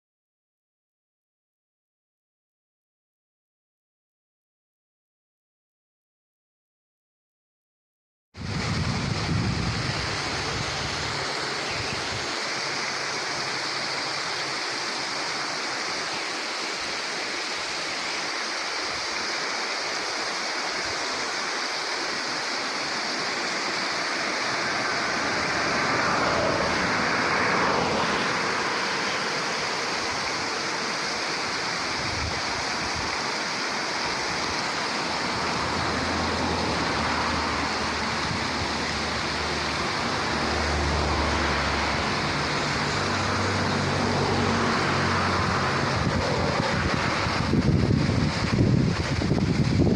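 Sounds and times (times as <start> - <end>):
waterfall rushing: 8.4 - 49.9.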